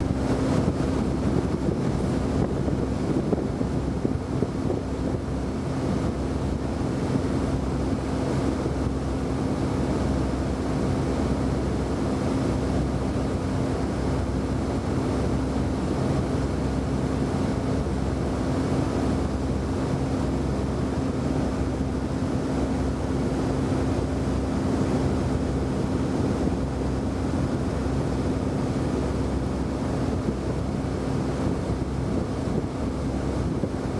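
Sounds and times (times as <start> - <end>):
constant low hum: 0.0 - 33.9.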